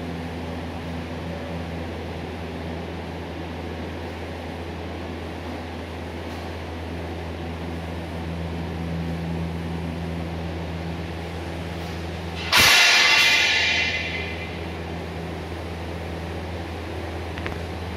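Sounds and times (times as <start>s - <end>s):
low machine hum: 0.0s - 17.9s.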